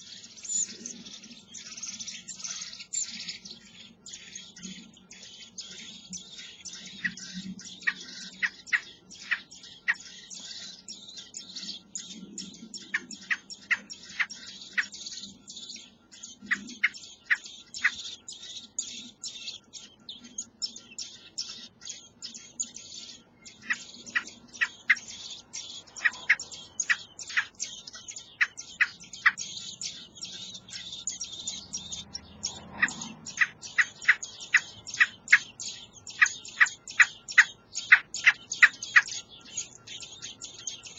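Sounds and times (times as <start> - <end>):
nestlings cheeping: 0.0 - 40.9.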